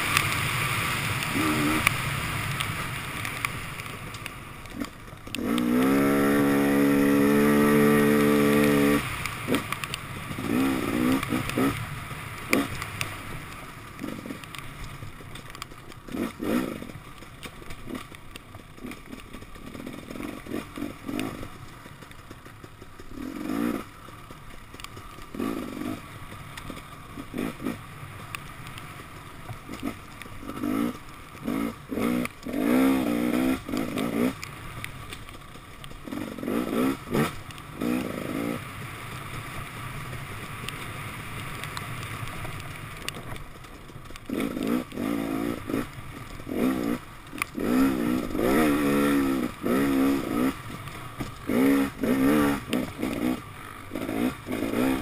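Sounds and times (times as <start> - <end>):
two-stroke motorcycle engine: 0.0 - 55.0.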